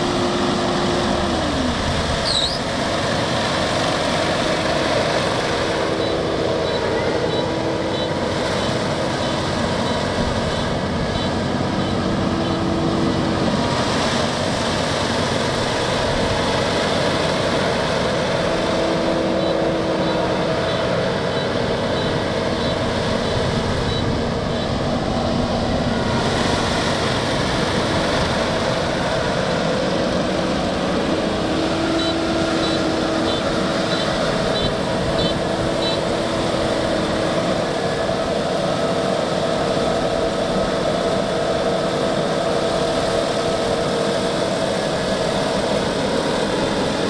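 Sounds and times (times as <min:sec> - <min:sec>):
combine harvester engine drone: 0:00.0 - 0:47.0.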